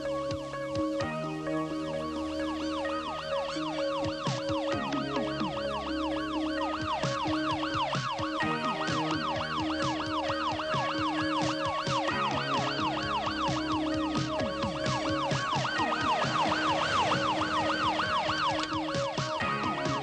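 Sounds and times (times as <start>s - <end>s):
music with bass line: 0.0s - 20.0s
fast yelping siren: 1.7s - 20.0s.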